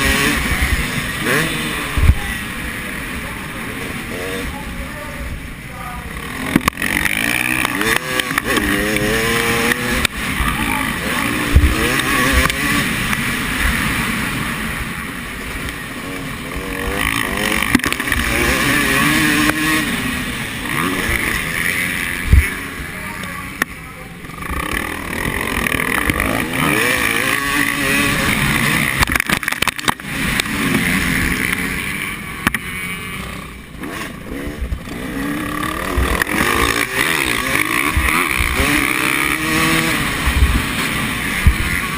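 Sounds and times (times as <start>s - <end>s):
motocross bike engines revving: 0.0s - 41.9s.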